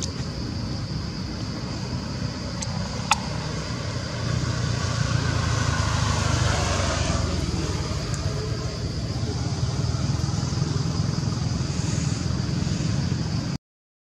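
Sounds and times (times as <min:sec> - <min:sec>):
vehicle engine rumble passing: 0:00.0 - 0:13.6.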